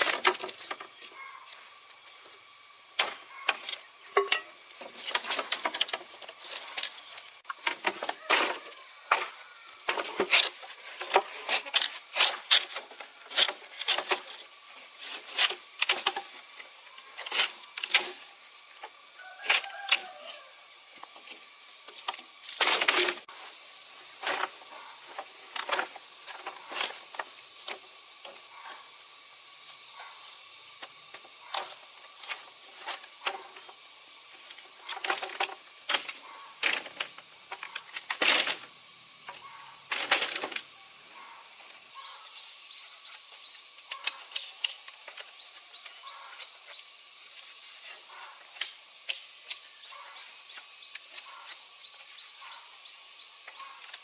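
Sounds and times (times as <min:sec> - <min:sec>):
steady high hiss: 0:00.0 - 0:54.0.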